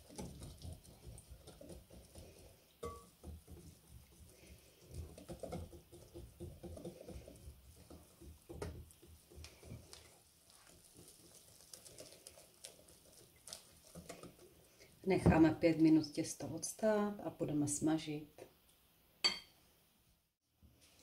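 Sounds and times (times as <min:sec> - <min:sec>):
batter mixing in a bowl: 0:00.0 - 0:17.5.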